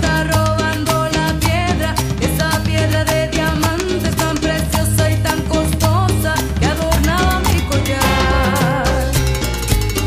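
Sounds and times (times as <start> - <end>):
latin dance-band music: 0.0 - 10.0.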